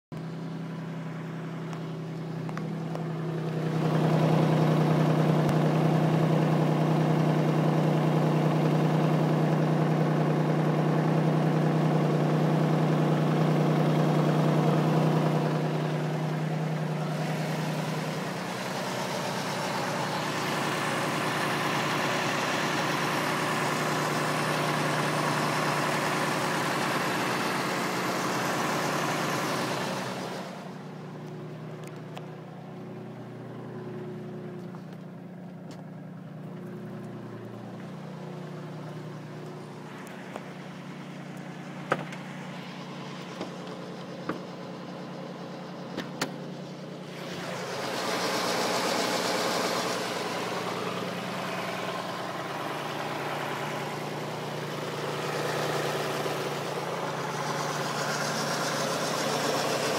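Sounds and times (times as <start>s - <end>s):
car engine idling: 0.1s - 59.9s.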